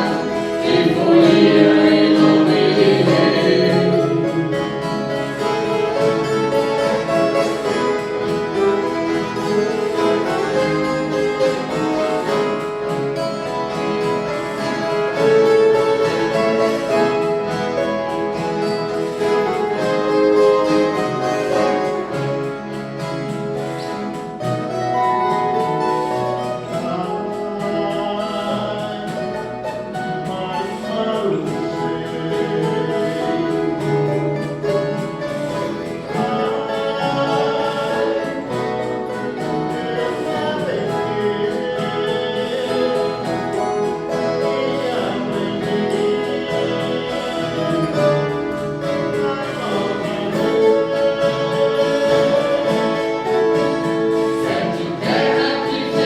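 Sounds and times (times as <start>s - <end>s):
group singing in chorus: 0.0s - 9.0s, 9.8s - 22.6s, 26.0s - 56.0s
plucked guitars: 0.0s - 56.0s.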